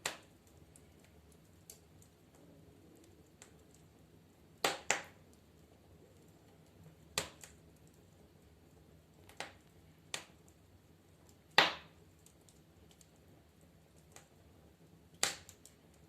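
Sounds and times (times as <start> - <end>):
firewood crackling in a stove: 0.0 - 16.0.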